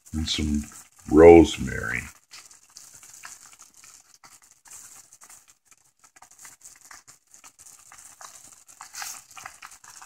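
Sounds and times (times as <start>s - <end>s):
food sizzling in a pot: 0.0s - 10.0s
small crackles: 0.0s - 10.0s.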